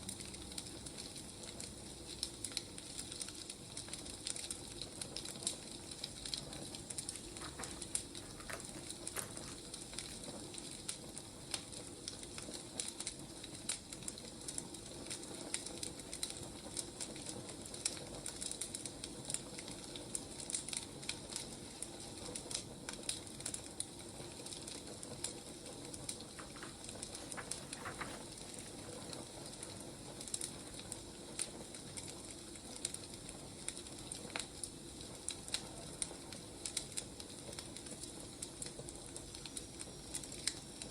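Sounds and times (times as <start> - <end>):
burning logs crackling and popping: 0.0 - 40.9
wood fire hissing: 0.0 - 40.9.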